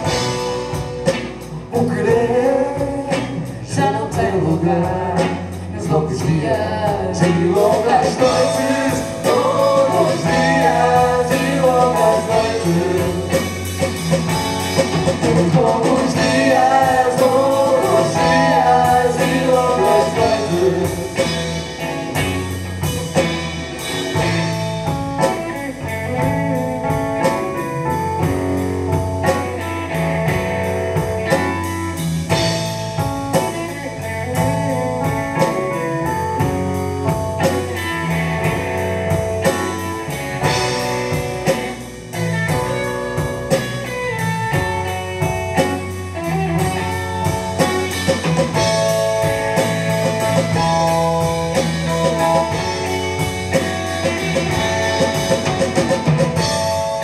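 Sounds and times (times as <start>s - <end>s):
blues band playing: 0.0s - 57.0s
steady drum beat: 0.0s - 57.0s.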